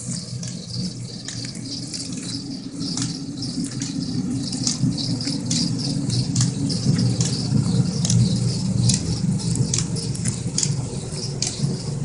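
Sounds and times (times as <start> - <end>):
sharp clicks and rattles: 0.0 - 12.0
water rushing in a channel: 0.0 - 12.0.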